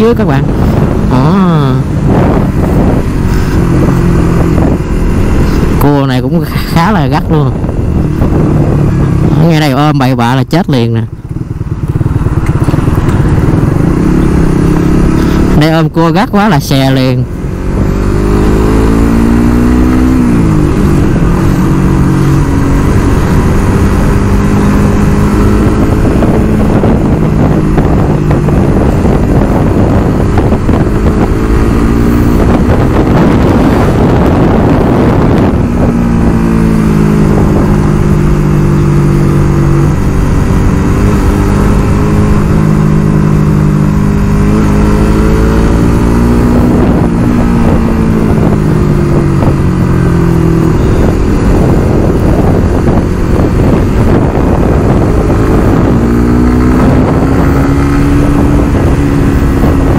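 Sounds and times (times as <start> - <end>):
motorbike engine running: 0.0 - 59.9.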